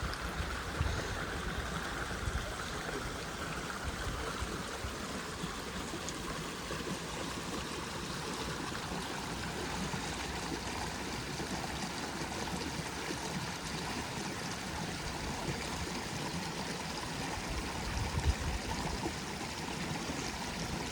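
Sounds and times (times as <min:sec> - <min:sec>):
running water: 0:00.0 - 0:20.9.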